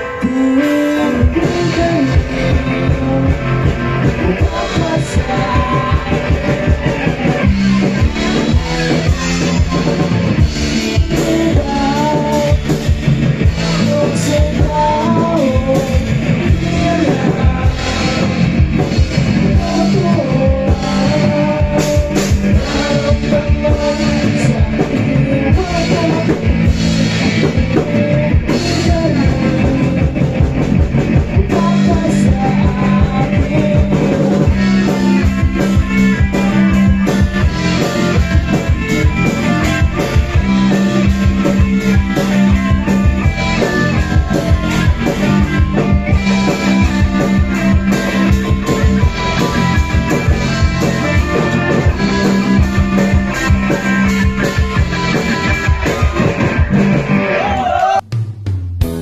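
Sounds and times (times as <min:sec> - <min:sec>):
electric guitars: 0:00.0 - 0:58.1
bass guitar: 0:00.0 - 0:59.0
drum kit: 0:00.0 - 0:59.0.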